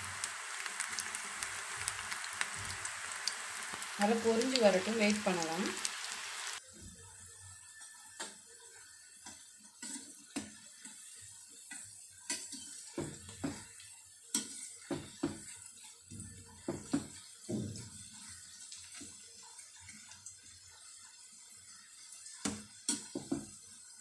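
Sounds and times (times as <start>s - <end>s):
oil sizzling: 0.0s - 6.6s, 7.2s - 24.0s.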